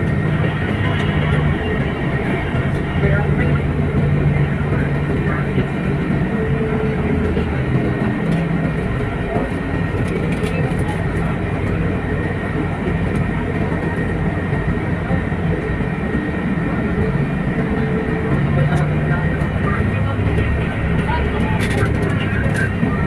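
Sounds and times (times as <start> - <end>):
faint voices: 0.0 - 23.0
vehicle interior drone: 0.0 - 23.0.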